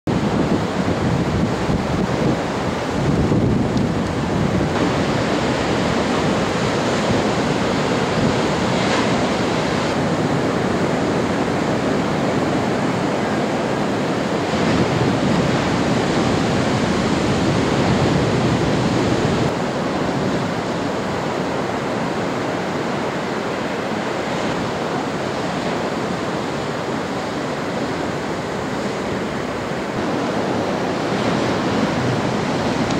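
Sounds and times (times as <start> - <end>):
surf waves breaking: 0.1 - 32.9.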